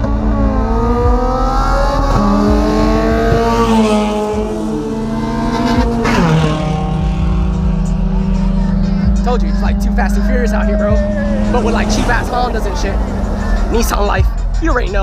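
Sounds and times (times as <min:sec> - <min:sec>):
car engines revving: 0:00.0 - 0:15.0
engine running steadily: 0:00.0 - 0:15.0.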